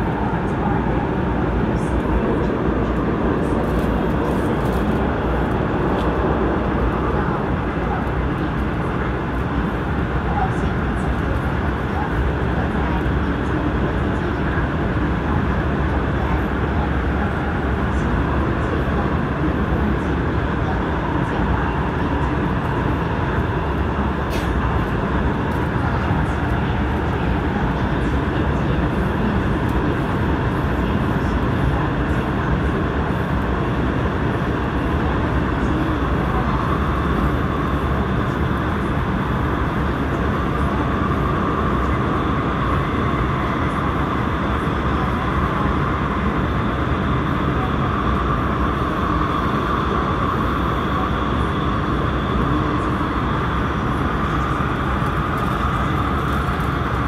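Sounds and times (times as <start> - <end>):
steady high hum: 0.0 - 57.0.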